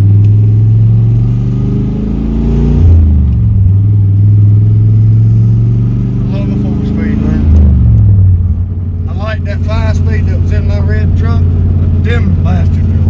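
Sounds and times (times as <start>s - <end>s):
pickup engine under way: 0.0s - 13.0s.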